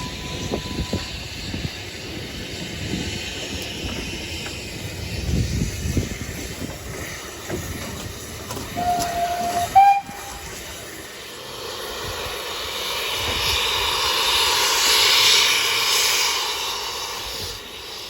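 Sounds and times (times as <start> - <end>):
train rumble and hiss: 0.0 - 18.0.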